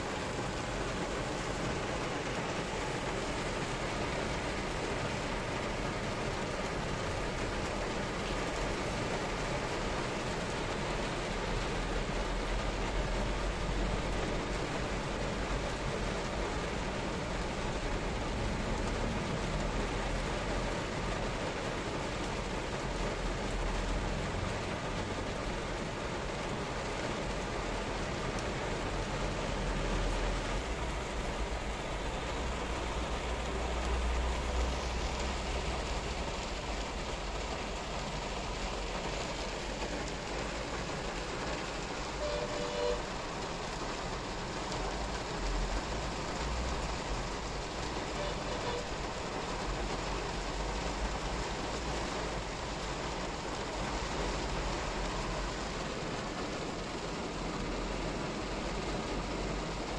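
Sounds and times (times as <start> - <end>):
engine and traffic rumble: 0.0 - 59.9
heavy rain drumming on car roof: 0.0 - 59.9.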